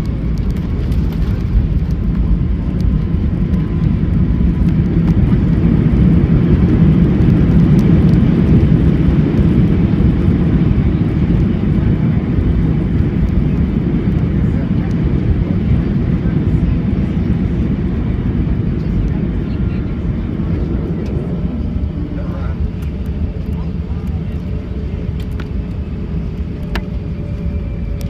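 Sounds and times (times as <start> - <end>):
rumble of engines and wheels: 0.0 - 28.0.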